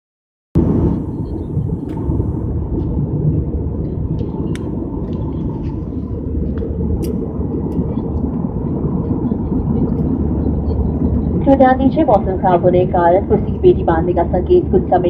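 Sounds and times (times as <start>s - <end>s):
airliner cabin rumble: 0.6s - 15.0s.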